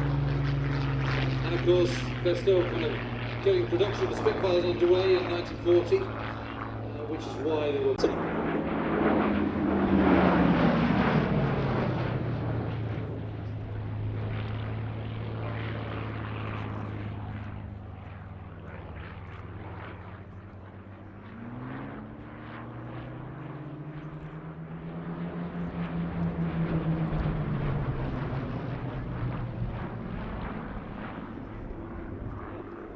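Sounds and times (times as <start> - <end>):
propeller aircraft engines passing: 0.0 - 32.9.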